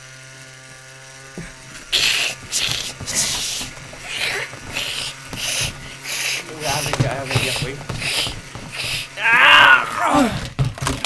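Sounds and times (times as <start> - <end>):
electric tool motor humming: 0.0 - 11.0
harsh rasping cutting: 0.5 - 10.6.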